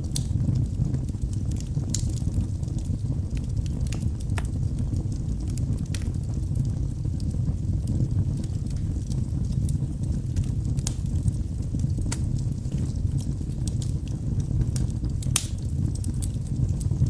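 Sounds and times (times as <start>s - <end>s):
fire crackles and pops: 0.0s - 17.0s
fireplace flame rumble: 0.0s - 17.0s.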